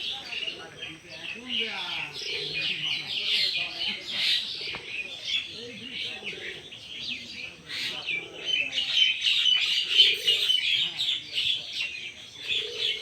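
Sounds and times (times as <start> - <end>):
dove-like cooing: 0.0 - 13.0
small birds chirping: 0.0 - 13.0.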